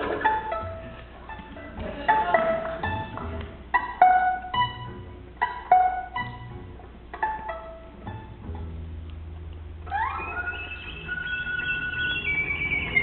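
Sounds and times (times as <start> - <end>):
bowed double bass note: 0.0 - 13.0
plucked string notes: 0.0 - 13.0.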